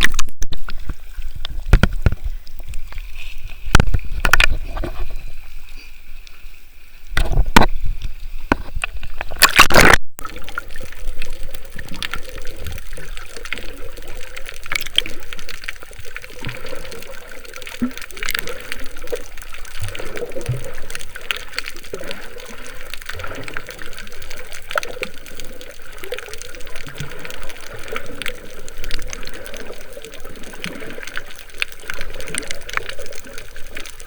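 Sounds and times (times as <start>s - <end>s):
sea water sloshing and splashing: 0.0s - 34.0s.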